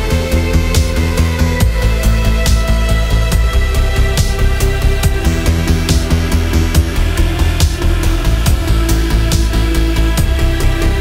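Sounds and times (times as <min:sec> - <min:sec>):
music with fast drum beat: 0:00.0 - 0:11.0.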